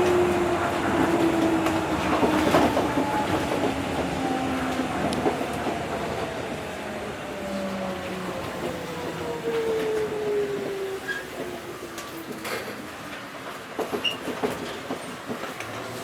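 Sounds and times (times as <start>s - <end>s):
monorail running rumble: 0.0s - 16.0s.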